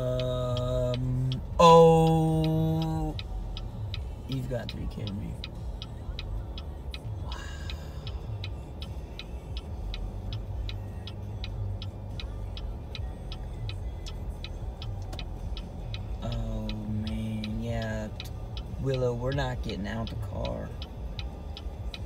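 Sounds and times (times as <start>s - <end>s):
car engine humming: 0.0s - 22.0s
car indicator ticking: 0.0s - 22.0s.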